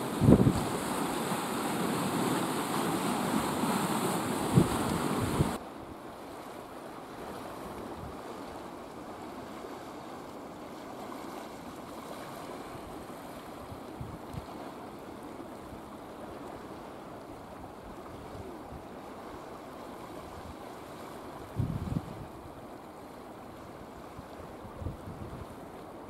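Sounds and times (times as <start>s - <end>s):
small waves lapping: 0.0s - 26.0s.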